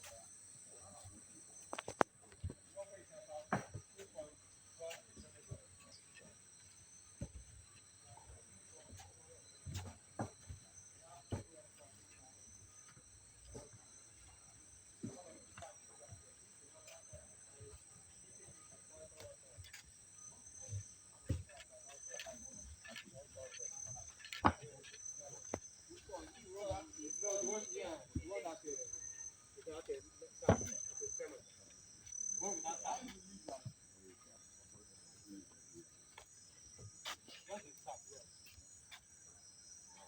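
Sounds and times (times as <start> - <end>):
faint distant voices: 0.0 - 40.0
high-pitched insect chorus: 0.0 - 40.0.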